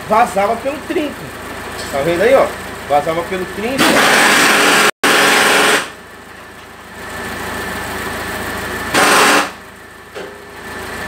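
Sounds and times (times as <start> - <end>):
car engine idling: 0.0 - 4.0, 5.6 - 11.0.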